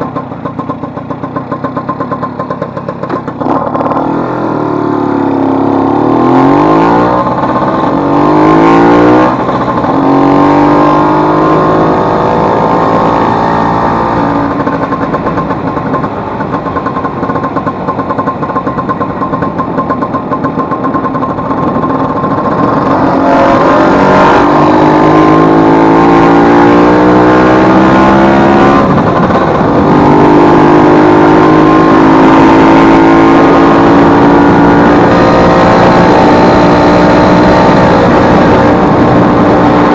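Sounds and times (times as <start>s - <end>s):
scooter two-stroke engine running: 0.0s - 26.2s, 28.8s - 39.9s.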